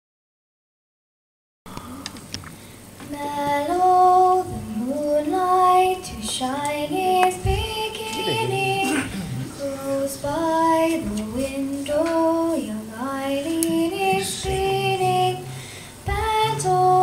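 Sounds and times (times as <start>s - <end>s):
girl singing unaccompanied: 3.0s - 17.0s.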